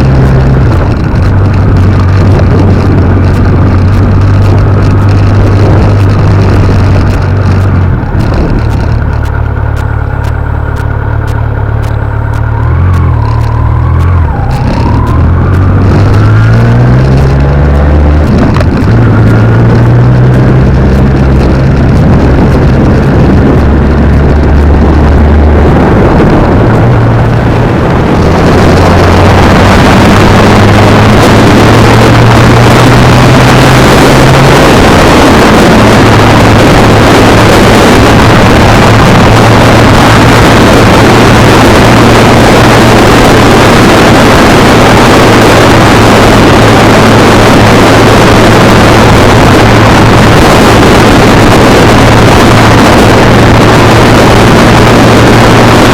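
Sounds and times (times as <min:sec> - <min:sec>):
motorcycle engine: 0:00.0 - 0:55.9
wind rushing over microphone: 0:00.0 - 0:55.9.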